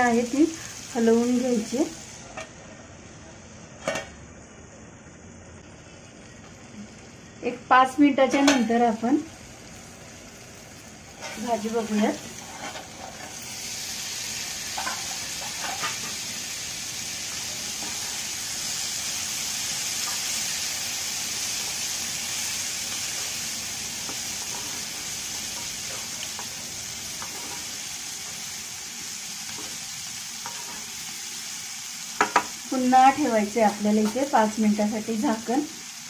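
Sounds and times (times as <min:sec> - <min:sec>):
beans sizzling in a pan: 0:00.0 - 0:02.5, 0:05.6 - 0:36.0.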